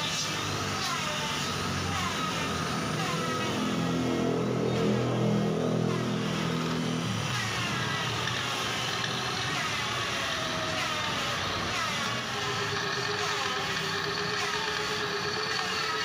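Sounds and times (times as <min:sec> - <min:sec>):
electric drill boring into steel: 0:00.0 - 0:16.0.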